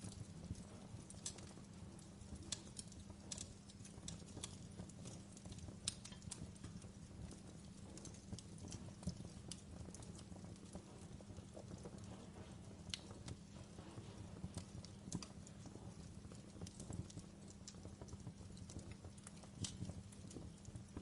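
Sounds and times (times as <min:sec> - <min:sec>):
logs crackling and popping: 0:00.0 - 0:21.0
low rumble of flames: 0:00.0 - 0:21.0.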